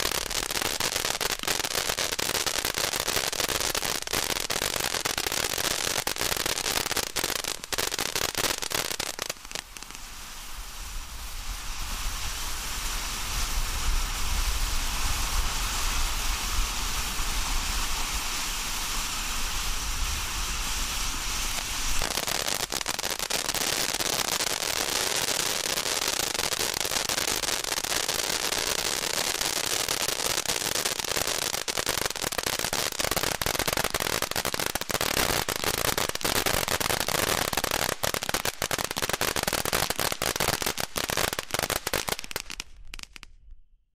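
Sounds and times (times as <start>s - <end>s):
firework fountain hissing: 0.0s - 43.3s
firework crackling: 0.0s - 43.5s.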